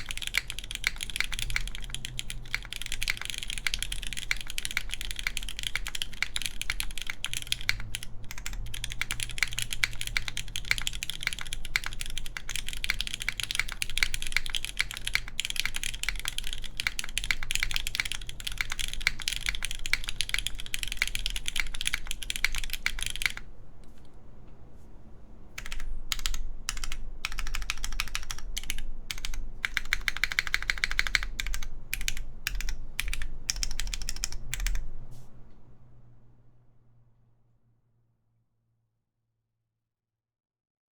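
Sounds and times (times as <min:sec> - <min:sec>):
mechanical keyboard typing: 0:00.0 - 0:23.5, 0:25.6 - 0:34.9.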